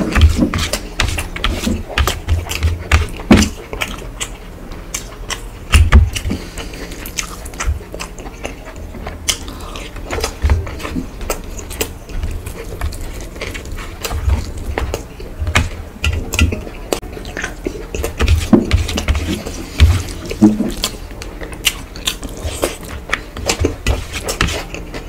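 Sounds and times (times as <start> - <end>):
fingers mixing food on steel plate: 0.0 - 25.0
wet chewing and mouth clicks: 0.0 - 25.0.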